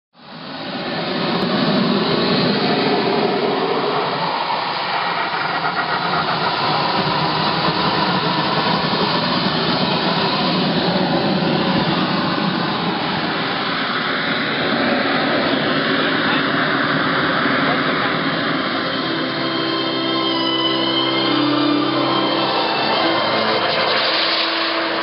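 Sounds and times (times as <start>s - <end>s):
model jet engine running: 0.3s - 18.9s, 21.3s - 25.0s.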